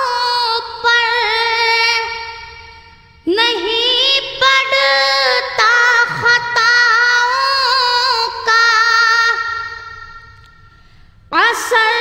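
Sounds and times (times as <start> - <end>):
person singing devotional song: 0.0 - 10.2, 11.3 - 12.0.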